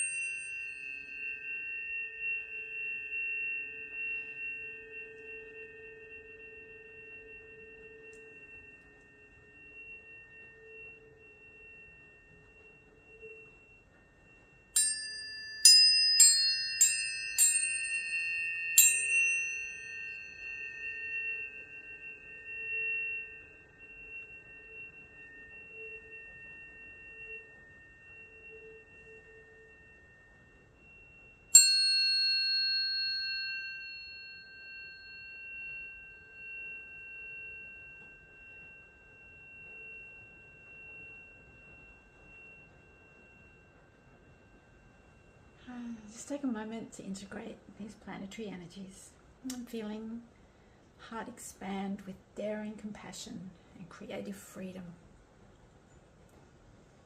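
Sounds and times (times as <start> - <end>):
high tones ringing: 0.0 - 57.0
tuning forks struck: 0.0 - 57.0.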